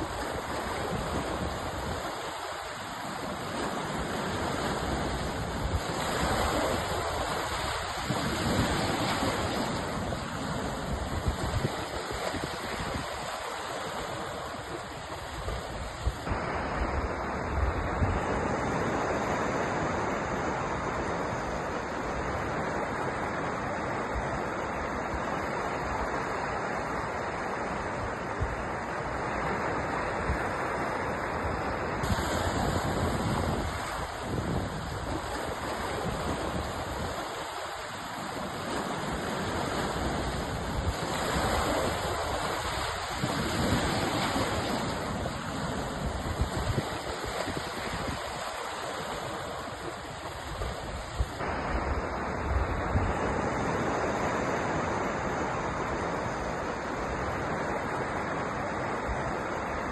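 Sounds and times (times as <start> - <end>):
sea waves washing ashore: 0.0 - 59.9.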